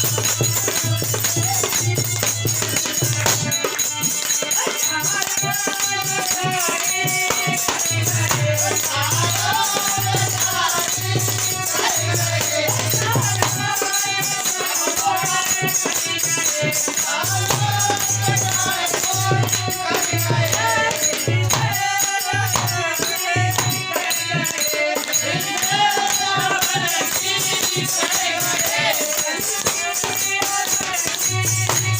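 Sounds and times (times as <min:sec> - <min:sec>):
devotional song melody: 0:00.0 - 0:31.9
jingling hand percussion: 0:00.0 - 0:31.9.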